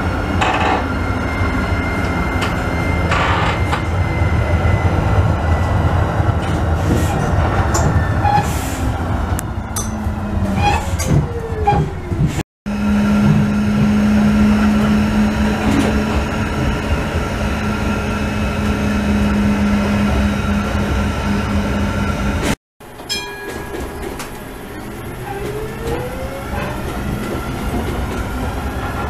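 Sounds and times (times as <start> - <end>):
wheels rumbling on rails: 0.0 - 29.0.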